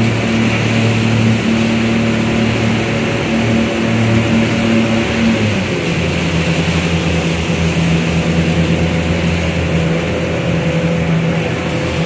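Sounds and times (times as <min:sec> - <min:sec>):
jet boat engine running: 0:00.0 - 0:12.0.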